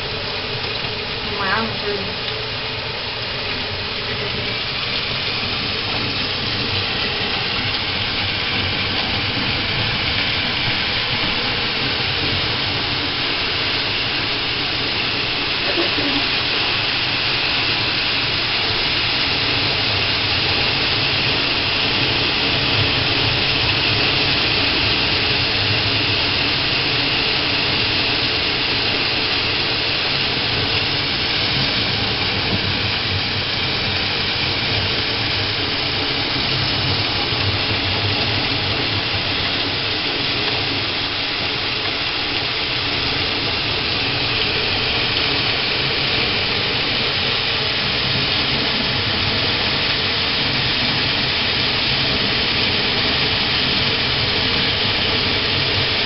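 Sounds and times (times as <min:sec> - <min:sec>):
heavy rain pouring: 0:00.0 - 0:56.0
water running off roof: 0:00.0 - 0:56.0.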